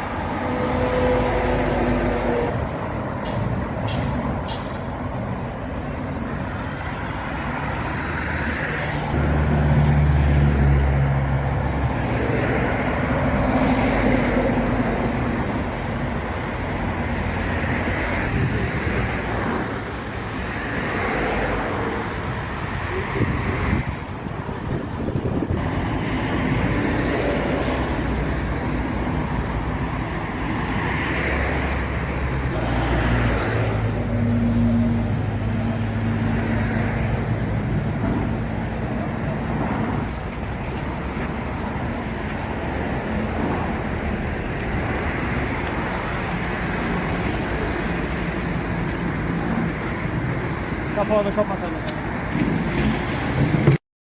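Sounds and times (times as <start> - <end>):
road traffic passing: 0.0 - 53.8.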